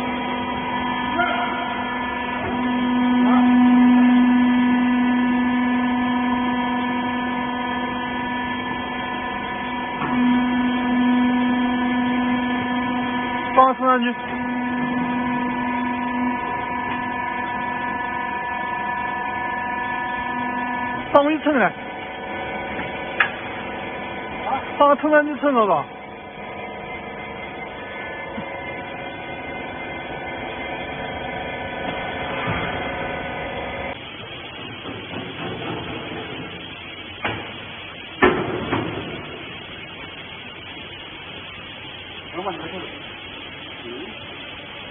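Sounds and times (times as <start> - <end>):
baler motor and pump humming: 0.0 - 44.9.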